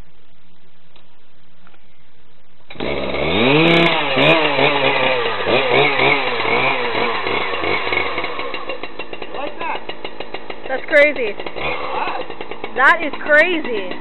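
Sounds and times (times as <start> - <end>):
chainsaw engine revving: 2.7 - 14.0.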